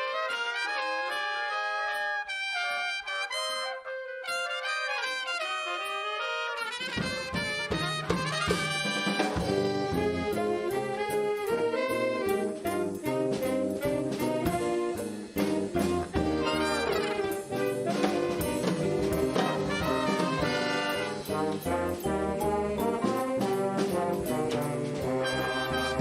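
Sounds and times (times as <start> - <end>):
band playing with brass: 0.0 - 26.0.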